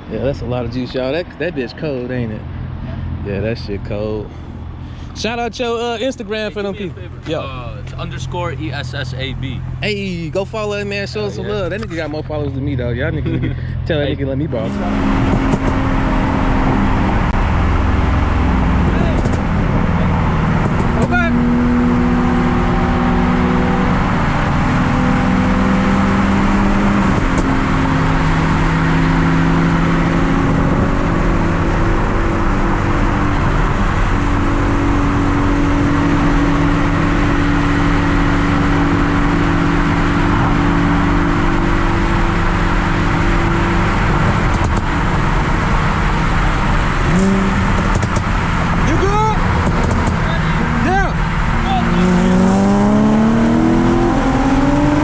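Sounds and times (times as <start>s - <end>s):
car engine and exhaust running: 0.0s - 55.0s.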